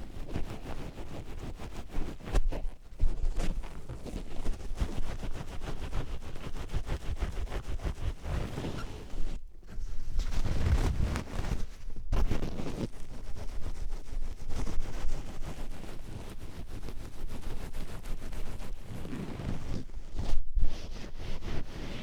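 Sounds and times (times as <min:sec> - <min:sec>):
oiled hands rubbing: 0:00.1 - 0:22.0.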